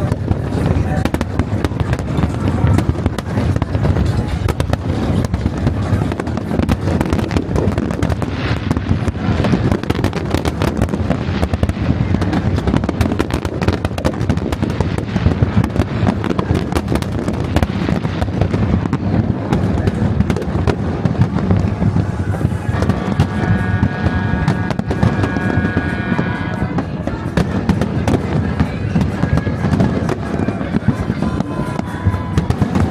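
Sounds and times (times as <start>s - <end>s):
fireworks cracking and banging: 0.0s - 32.9s
low rumble of booms: 0.0s - 32.9s.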